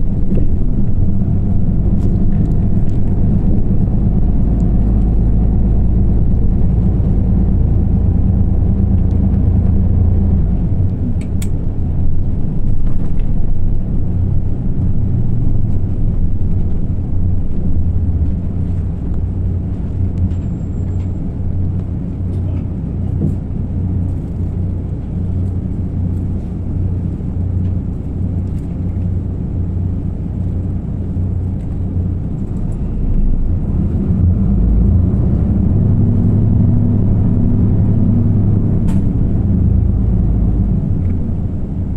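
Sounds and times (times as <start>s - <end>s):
bus diesel engine under load: 0.0s - 41.9s.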